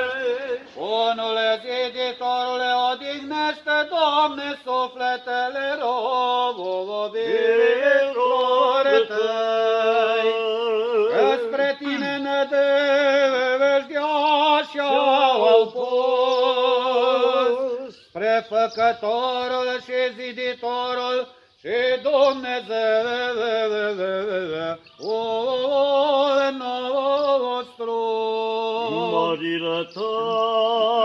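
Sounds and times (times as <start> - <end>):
unaccompanied church chant: 0.0 - 31.0.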